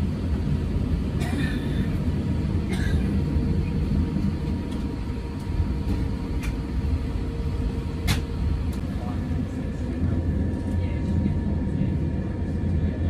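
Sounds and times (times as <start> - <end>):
airliner cabin rumble: 0.0 - 13.0
faint hum: 0.0 - 13.0.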